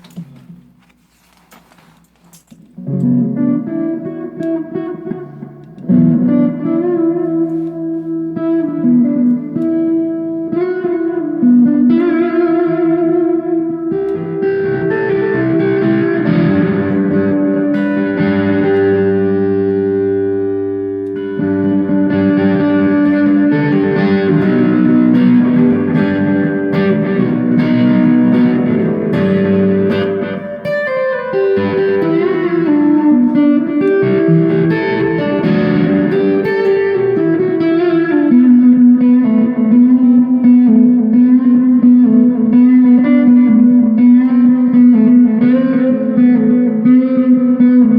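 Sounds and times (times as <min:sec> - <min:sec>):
electric guitar solo: 0:02.8 - 0:47.9.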